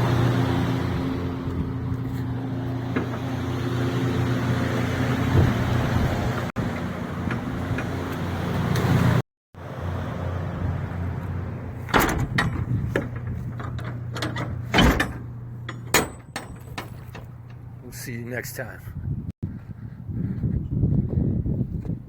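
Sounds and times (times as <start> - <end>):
kiln machinery humming: 0.0 - 18.2.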